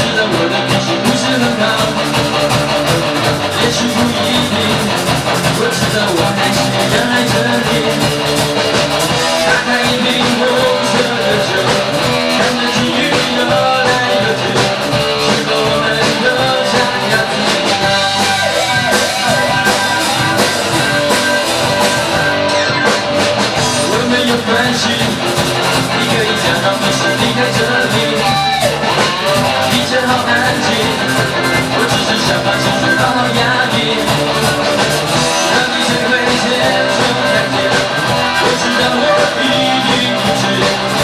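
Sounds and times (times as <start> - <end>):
drum kit: 0.0 - 41.0
guitar: 0.0 - 41.0
rock band playing: 0.0 - 41.0.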